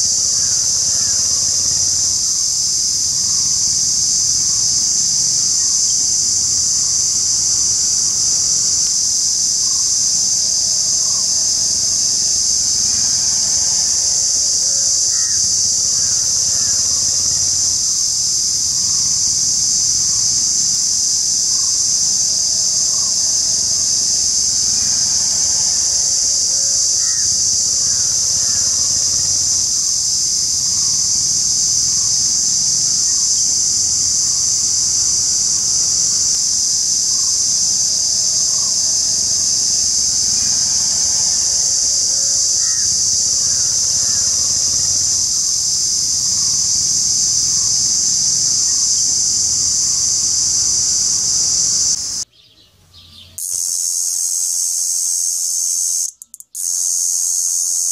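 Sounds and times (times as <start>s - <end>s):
cicadas buzzing: 0.0s - 57.9s.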